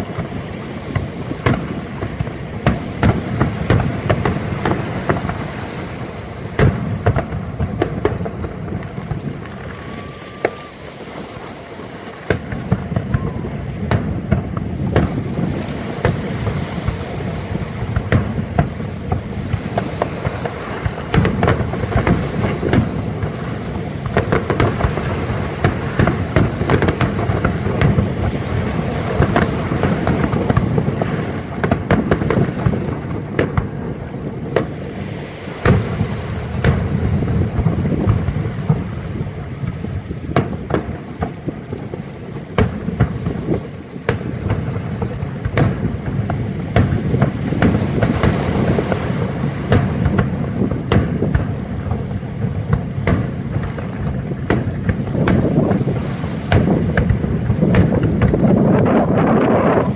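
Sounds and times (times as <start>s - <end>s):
continuous low rumble: 0.0s - 35.0s, 35.7s - 59.9s
firework shells bursting: 0.0s - 59.9s.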